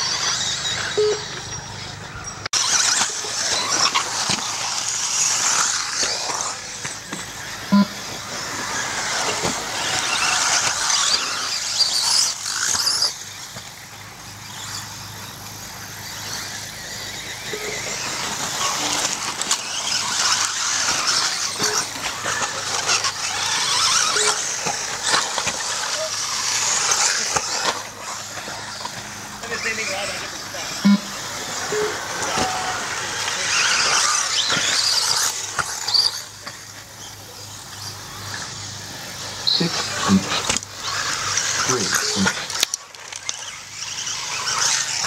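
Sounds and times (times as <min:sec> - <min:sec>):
rc cars high-pitched whine: 0:00.0 - 0:45.0.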